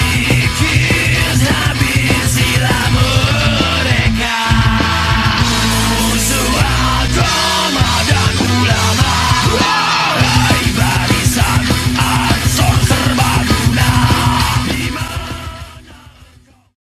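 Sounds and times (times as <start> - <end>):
driving drum beat: 0.0 - 16.7
loud rock music: 0.0 - 16.8.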